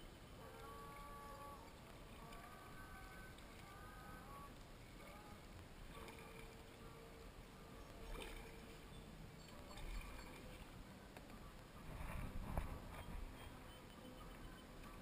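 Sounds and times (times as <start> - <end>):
faint distant tones: 0.0 - 15.0
paddle strokes in water: 0.0 - 15.0.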